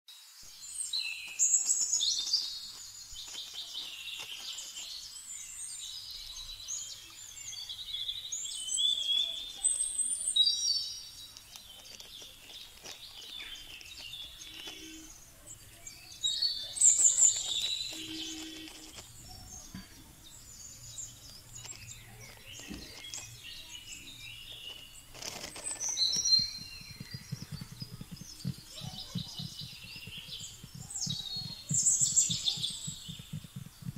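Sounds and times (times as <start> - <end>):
birds chirping and trilling: 0.2 - 33.9.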